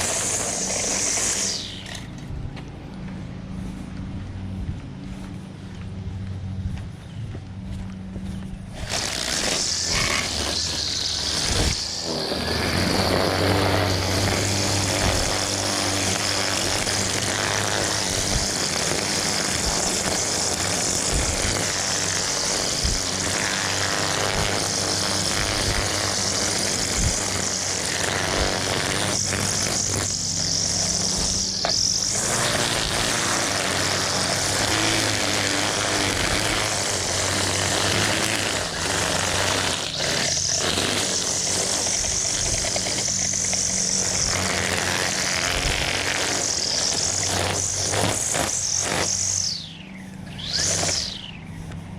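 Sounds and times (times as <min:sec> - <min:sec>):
string trimmer engine whine: 0:00.0 - 0:51.9.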